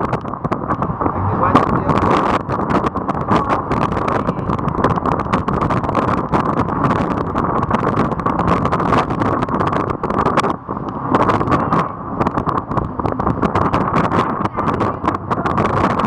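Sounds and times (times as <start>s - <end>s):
boat engine running: 0.0s - 16.0s
water rushing along hull: 0.0s - 16.0s
wind buffeting microphone: 0.0s - 16.0s.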